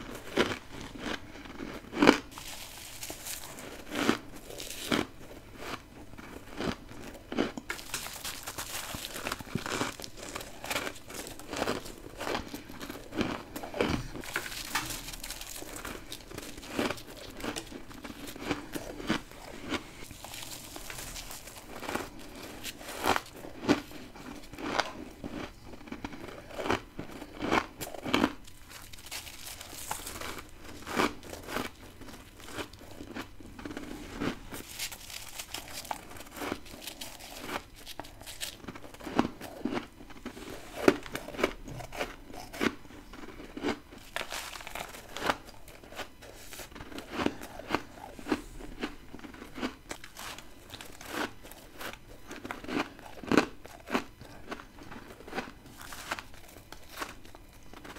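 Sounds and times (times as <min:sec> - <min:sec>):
crunching bites of frost: 0:06.6 - 0:25.5, 0:26.3 - 0:57.9.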